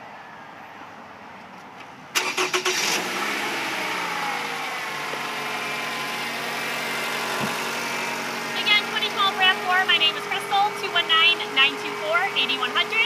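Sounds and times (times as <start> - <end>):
car engine starting and idling: 2.1 - 13.0.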